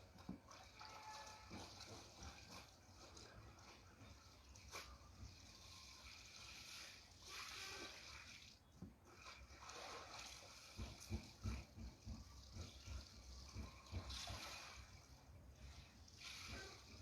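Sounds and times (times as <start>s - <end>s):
water splashing in basin: 0.0s - 17.0s.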